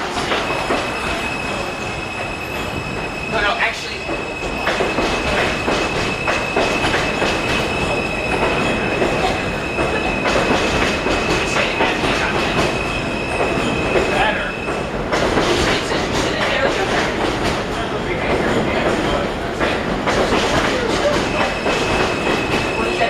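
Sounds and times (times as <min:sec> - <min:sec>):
train wheels clicking over rail joints: 0:03.8 - 0:23.0.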